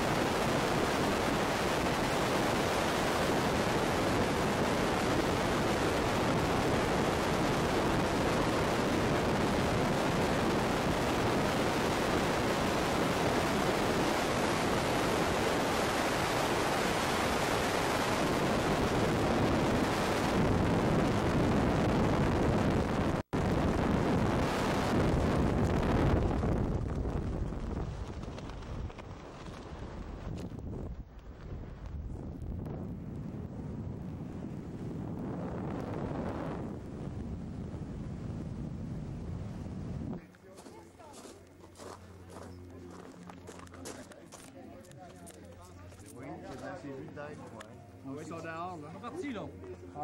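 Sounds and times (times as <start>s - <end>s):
wind rushing over microphone: 0.0s - 40.2s.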